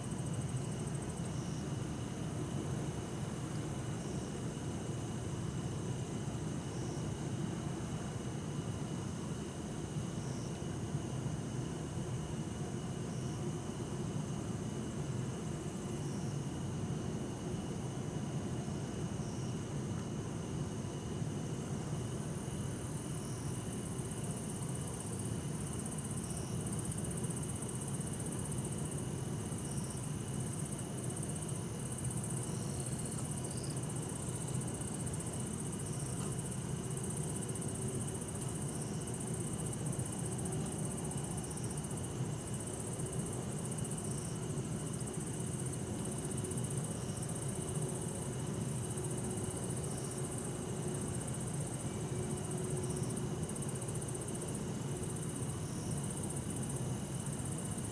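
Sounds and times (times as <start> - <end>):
crickets and insects singing: 0.0 - 57.9.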